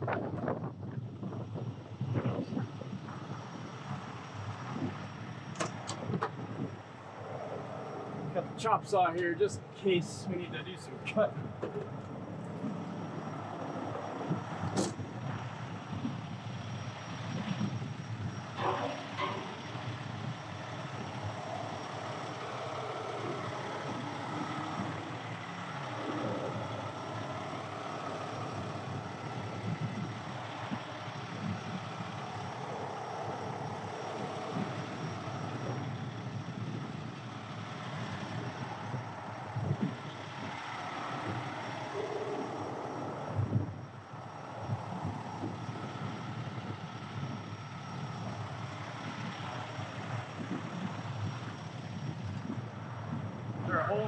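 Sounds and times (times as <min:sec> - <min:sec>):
highway traffic rumble: 0:00.0 - 0:54.0.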